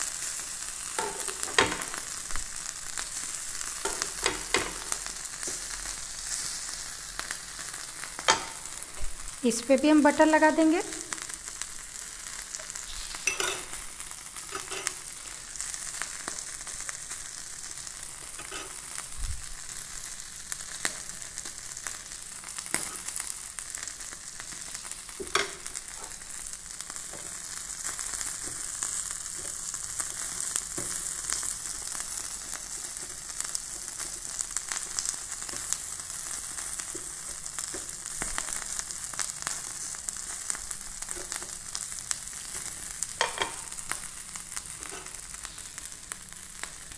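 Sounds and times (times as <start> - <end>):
chicken sizzling on a grill: 0.0 - 46.9.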